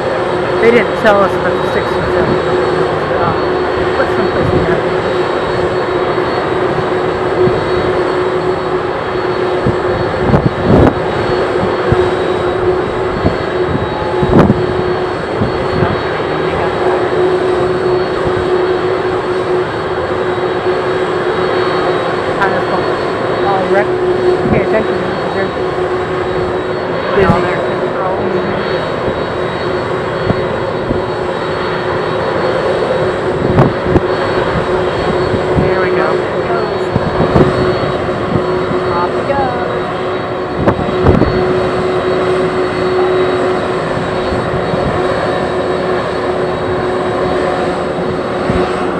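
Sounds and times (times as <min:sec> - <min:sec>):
jet engines running: 0:00.0 - 0:48.9
wind buffeting microphone: 0:00.0 - 0:48.9.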